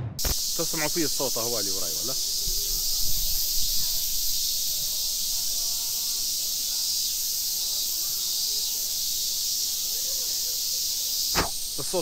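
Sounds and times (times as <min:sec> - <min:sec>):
cicadas calling: 0:00.2 - 0:12.0.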